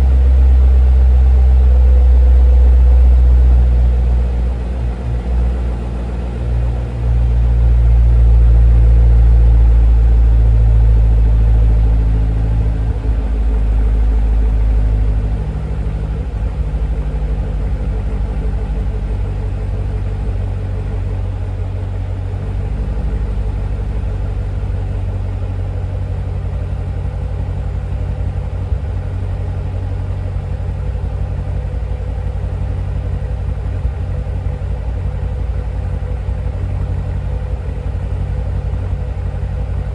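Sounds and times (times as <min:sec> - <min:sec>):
car engine running and idling: 0:00.0 - 0:39.9.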